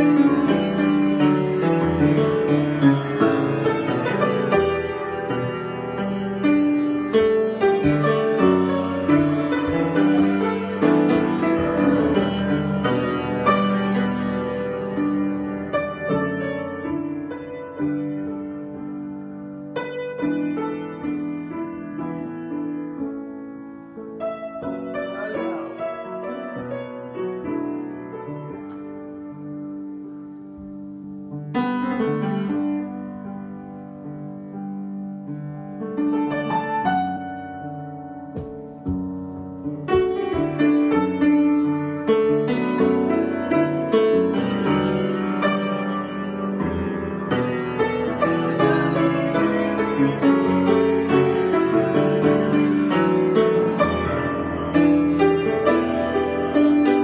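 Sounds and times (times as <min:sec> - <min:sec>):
solo piano: 0:00.0 - 0:57.0.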